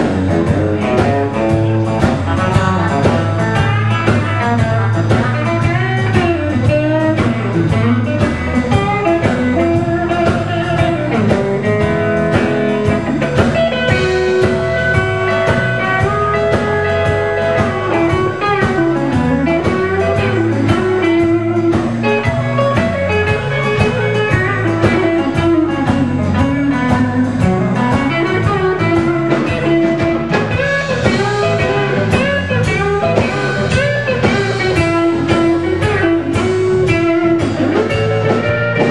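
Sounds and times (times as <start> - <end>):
bass: 0.0 - 38.9
lead guitar with bent notes: 0.0 - 38.9
steady drum beat: 0.0 - 38.9.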